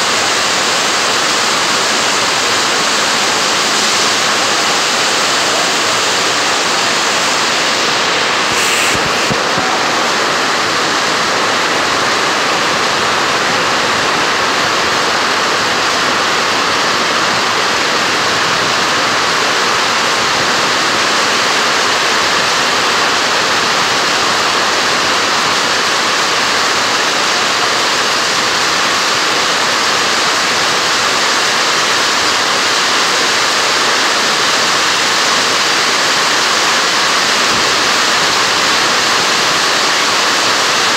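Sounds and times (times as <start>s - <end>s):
heavy rain on metal roof: 0.0s - 40.9s.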